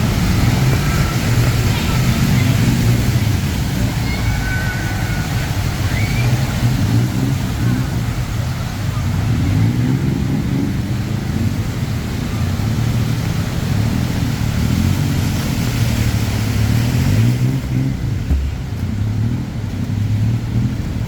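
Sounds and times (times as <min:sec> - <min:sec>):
vehicle engines humming: 0:00.0 - 0:21.0.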